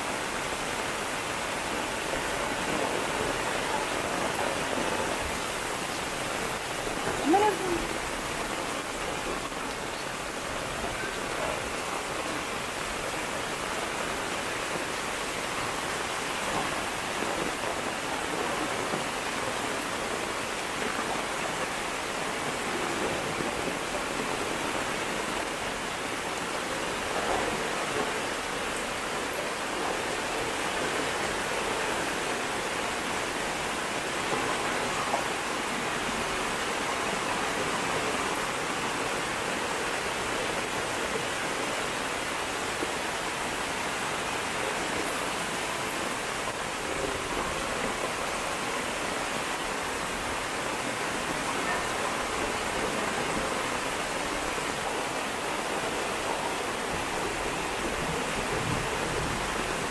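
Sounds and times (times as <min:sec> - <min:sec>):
rainwater rushing down a lane: 0:00.0 - 0:59.9.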